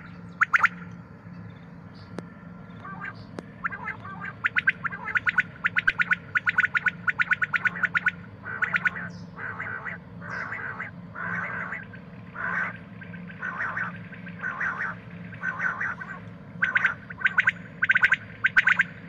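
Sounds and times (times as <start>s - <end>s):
quail raspy calls: 0.0s - 0.9s, 2.7s - 19.0s.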